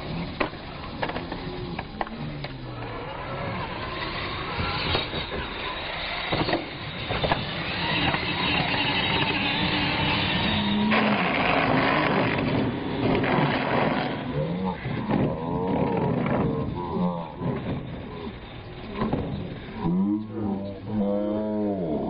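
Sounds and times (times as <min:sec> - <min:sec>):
rc truck motors whining: 0:00.0 - 0:21.8.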